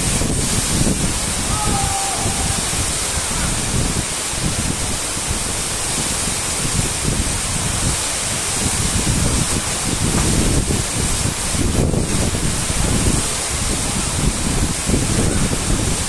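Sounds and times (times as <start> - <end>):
waterfall crashing: 0.0 - 16.0
wind buffeting microphone: 0.0 - 16.0.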